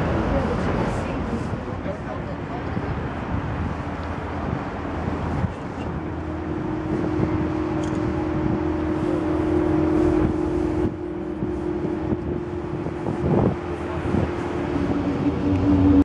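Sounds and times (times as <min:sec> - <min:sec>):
background rush: 0:00.0 - 0:16.0
steel tubes humming in wind: 0:00.0 - 0:16.0.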